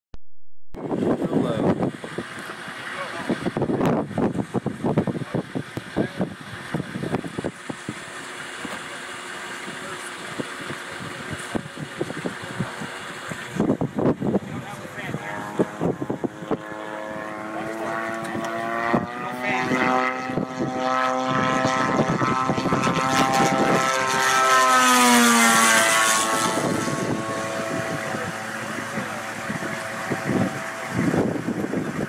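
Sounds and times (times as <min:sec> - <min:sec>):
drone propeller engine buzzing: 0:00.8 - 0:32.0.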